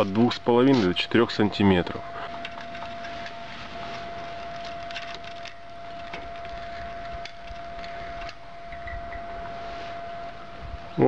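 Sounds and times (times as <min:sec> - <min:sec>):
steady background tone: 0:00.0 - 0:11.0.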